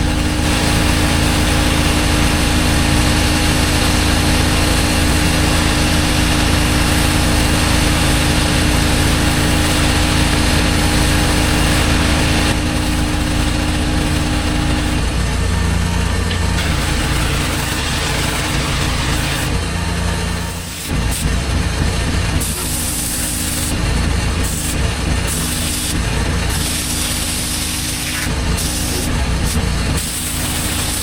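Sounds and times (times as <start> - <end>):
high-pressure water spray hissing: 0.0 - 15.2, 16.5 - 19.6, 22.3 - 31.0
pressure washer engine and pump drone: 0.0 - 31.0.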